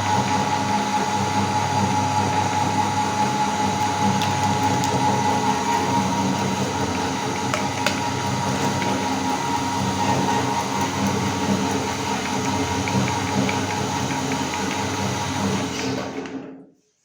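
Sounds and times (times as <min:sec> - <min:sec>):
meat grinder motor running: 0:00.0 - 0:16.3.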